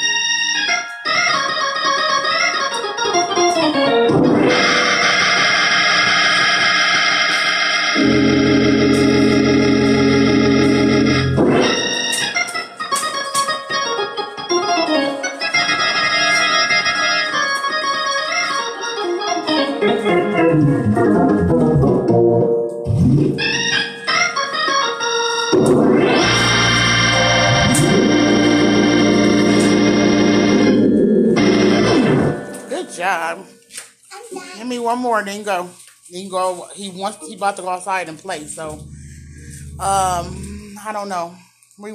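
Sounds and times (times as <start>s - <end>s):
organ playing chords and runs: 0.0s - 33.3s, 38.5s - 41.0s.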